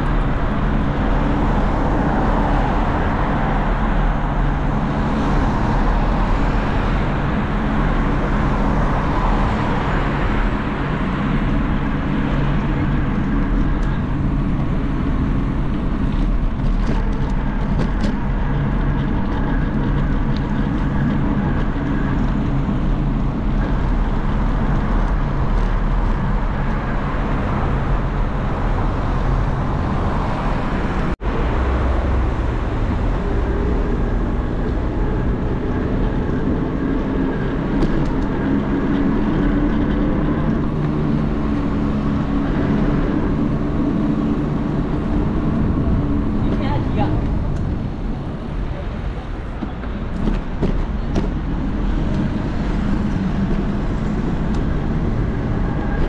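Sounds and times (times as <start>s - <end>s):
motor vehicle running: 0.0s - 56.0s
road noise: 0.0s - 56.0s.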